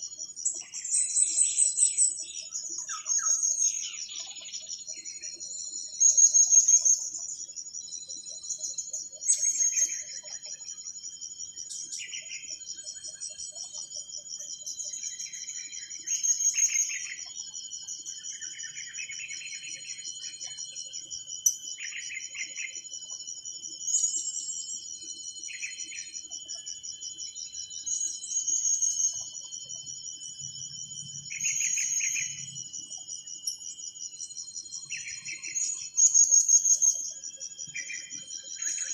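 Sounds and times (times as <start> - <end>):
high-pitched insect trill: 0.0 - 38.9.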